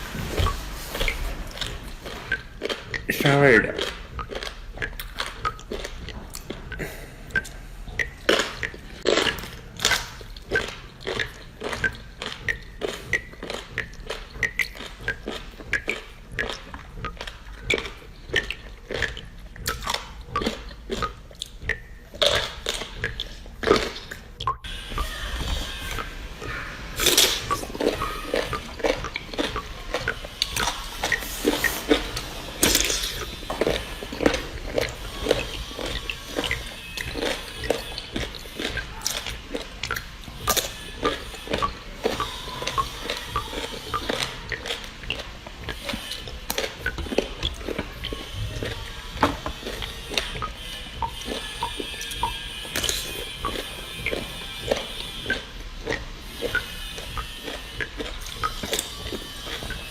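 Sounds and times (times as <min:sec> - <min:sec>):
person chewing crunchy food: 0:00.0 - 0:59.9
mouth clicks: 0:00.4 - 0:59.9.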